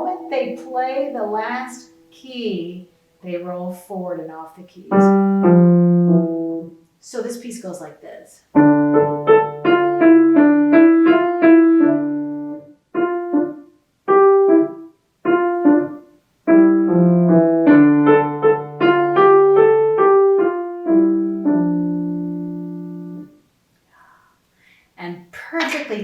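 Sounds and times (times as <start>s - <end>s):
piano minuet: 0.0s - 23.6s.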